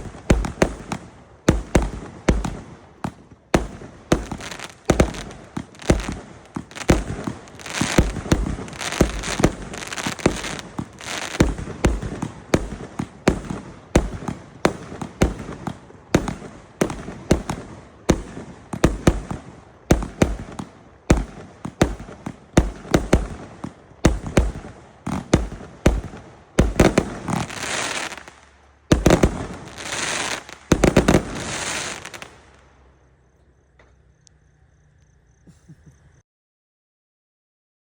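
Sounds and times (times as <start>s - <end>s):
fireworks bangs: 0.0s - 32.7s
fireworks crackling: 0.0s - 32.9s.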